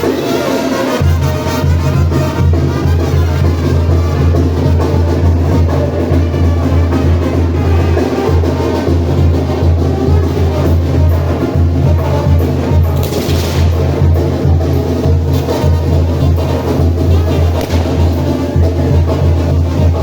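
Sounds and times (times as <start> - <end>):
music with percussion and heavy bass: 0.0 - 20.0.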